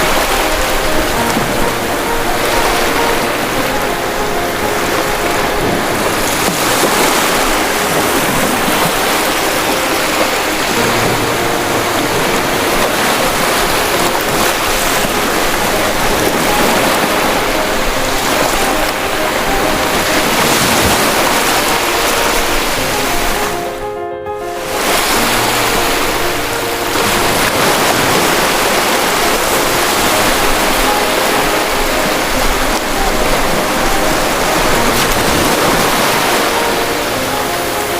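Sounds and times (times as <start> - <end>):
ocean waves breaking: 0.0 - 37.9.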